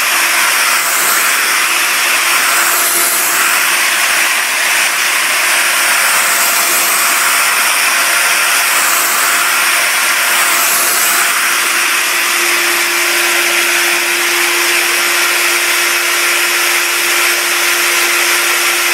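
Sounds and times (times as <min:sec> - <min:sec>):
electric router routing wood: 0:00.0 - 0:18.9.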